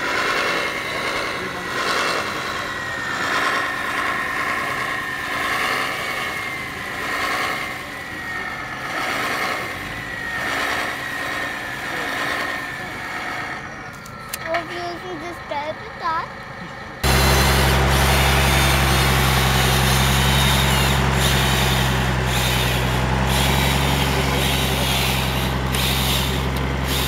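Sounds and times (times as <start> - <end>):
toy truck electric drive whining: 0.0 - 27.0.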